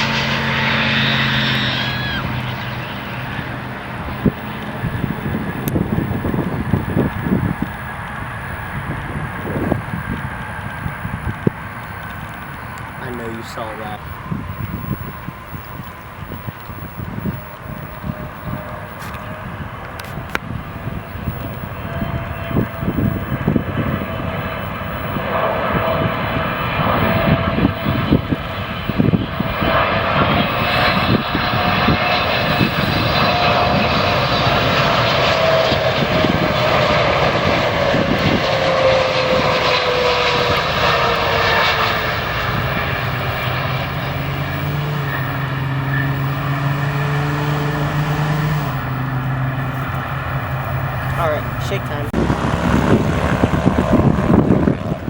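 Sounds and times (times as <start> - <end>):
jet airliner passing: 0.0 - 55.0.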